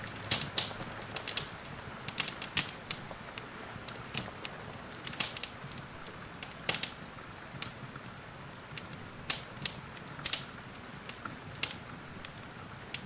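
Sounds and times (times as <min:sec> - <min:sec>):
rain hiss: 0:00.0 - 0:13.0
wood fire crackling and popping: 0:00.0 - 0:13.0.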